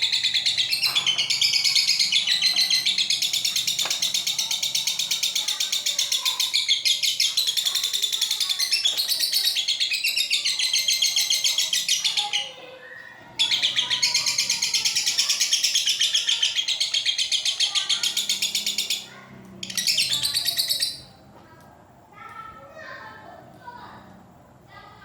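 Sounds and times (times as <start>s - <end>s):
lovebird chattering: 0.0s - 12.6s, 13.3s - 21.1s.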